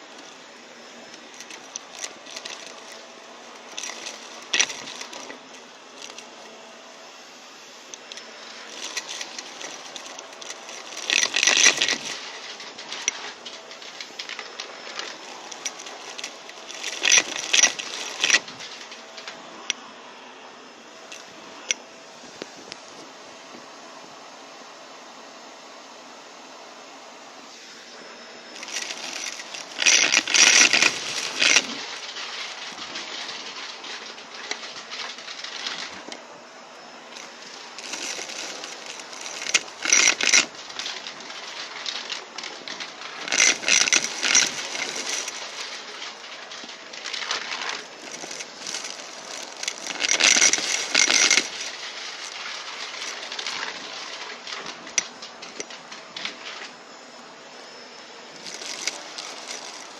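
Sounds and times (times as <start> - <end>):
debris crackling and rattling: 0.0 - 6.7, 7.8 - 19.4, 28.5 - 56.8, 58.3 - 59.9
vacuum cleaner running: 0.0 - 59.9.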